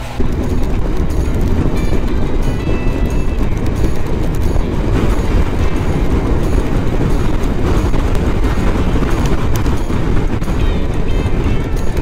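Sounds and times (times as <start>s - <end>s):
motorcycle engine and tyres rumbling: 0.0s - 12.0s
wind rushing: 0.0s - 12.0s.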